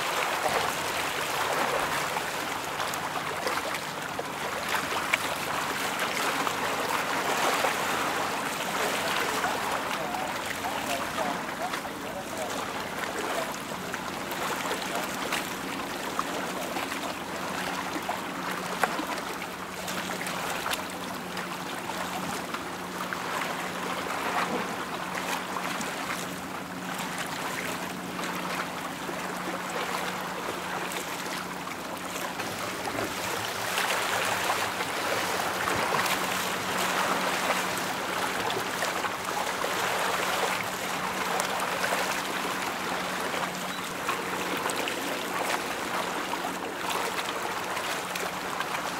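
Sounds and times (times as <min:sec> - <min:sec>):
river water lapping: 0:00.0 - 0:48.9.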